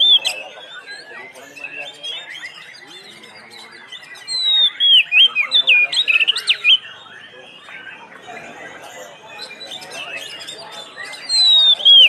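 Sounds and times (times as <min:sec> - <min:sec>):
bird chirping softly: 0:00.0 - 0:12.0
songbird singing whistled notes: 0:00.0 - 0:12.0.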